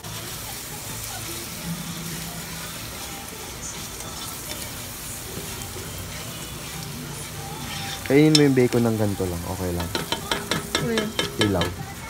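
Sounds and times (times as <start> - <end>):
bacon and onion sizzling: 0.0 - 12.0
spatula stirring in pot: 1.4 - 12.0.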